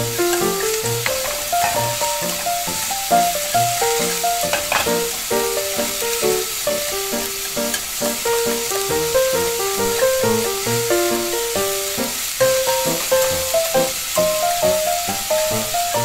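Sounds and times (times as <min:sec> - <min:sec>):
background music simple melody: 0:00.0 - 0:16.0
hot oil sizzling and bubbling: 0:00.0 - 0:16.0.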